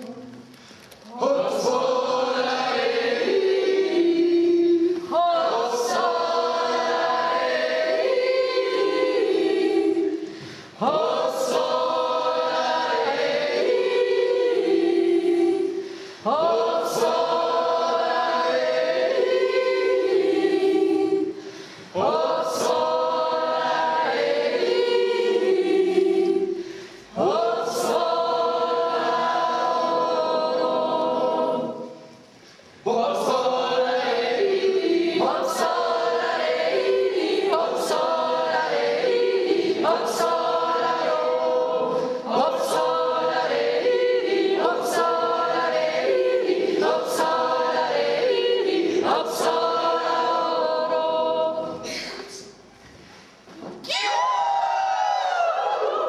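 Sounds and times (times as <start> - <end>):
choir singing: 1.1 - 32.2, 32.8 - 51.9, 54.1 - 56.0.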